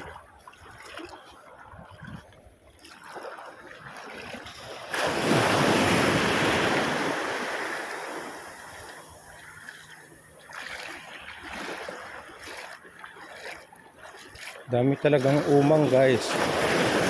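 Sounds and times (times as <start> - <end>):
water sloshing: 0.0 - 17.0.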